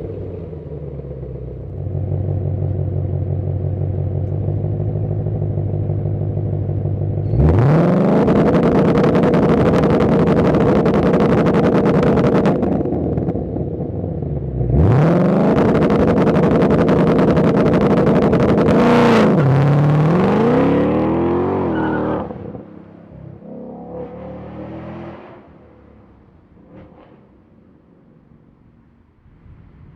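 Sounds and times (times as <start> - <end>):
car engine rumbling and revving: 0.0 - 28.9.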